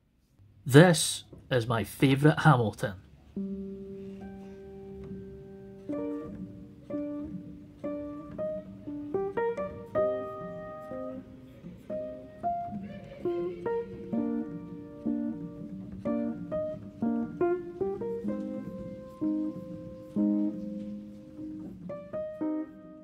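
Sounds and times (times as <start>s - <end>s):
guitar picking a melody: 3.3s - 23.0s.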